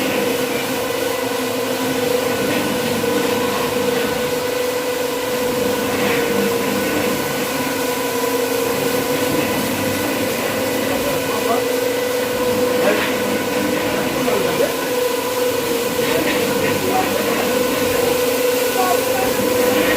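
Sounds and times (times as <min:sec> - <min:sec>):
carpet-cleaning machine humming: 0:00.0 - 0:19.9.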